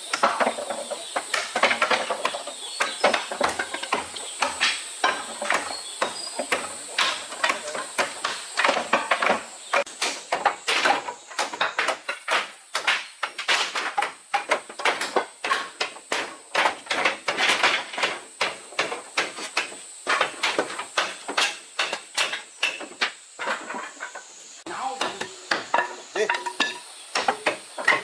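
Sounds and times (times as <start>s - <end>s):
sharp knocks and clatters: 0.0s - 24.3s, 24.9s - 28.0s.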